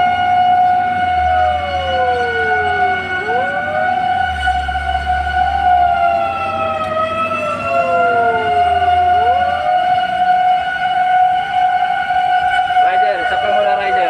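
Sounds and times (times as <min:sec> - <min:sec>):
low engine rumble: 0:00.0 - 0:14.0
steady high siren: 0:00.0 - 0:14.0
sweeping siren: 0:00.0 - 0:14.0.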